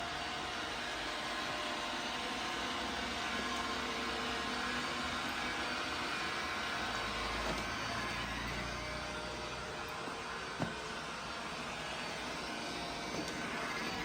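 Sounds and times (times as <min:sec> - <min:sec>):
robot vacuum whirring: 0:00.0 - 0:14.0.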